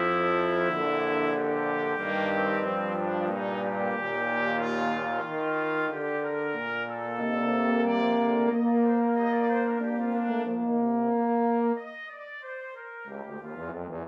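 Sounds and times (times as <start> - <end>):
sampled brass chords: 0.0 - 14.0.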